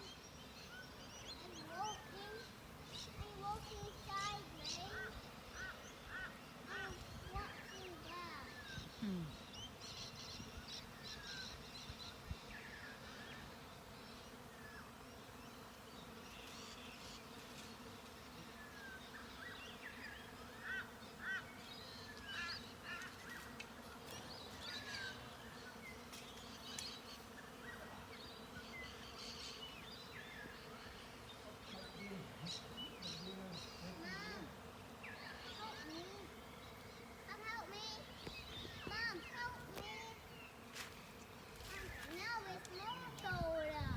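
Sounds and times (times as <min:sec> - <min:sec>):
honeybee swarm humming: 0:00.0 - 0:43.9.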